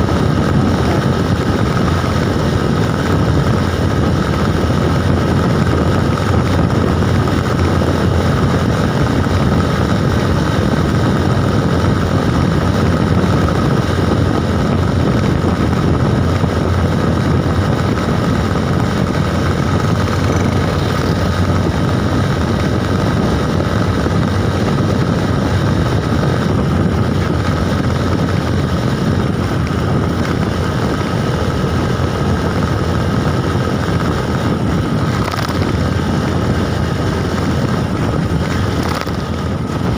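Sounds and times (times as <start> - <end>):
bike running noise: 0.0 - 39.9
wind rushing over microphone: 0.0 - 39.9.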